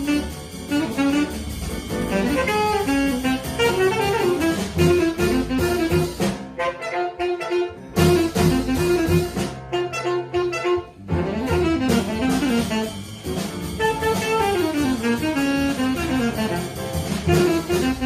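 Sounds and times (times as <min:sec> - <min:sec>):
alto saxophone: 0:00.0 - 0:18.0
bass: 0:00.0 - 0:18.0
drums: 0:00.0 - 0:18.0.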